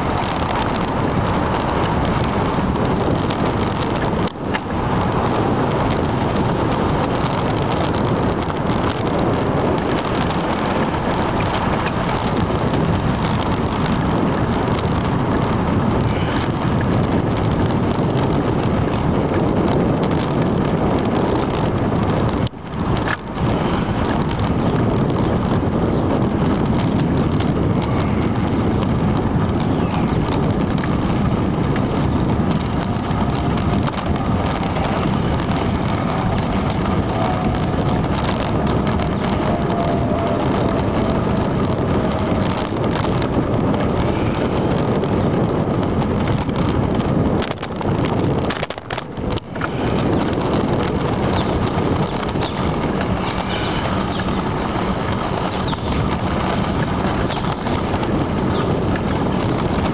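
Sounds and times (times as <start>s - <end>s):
road noise: 0.0s - 59.9s
wind rushing over microphone: 0.0s - 59.9s.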